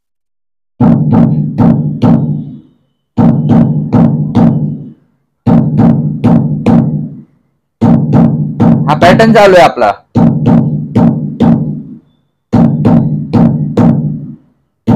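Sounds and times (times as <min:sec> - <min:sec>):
electronic drum strokes: 0:00.8 - 0:14.9.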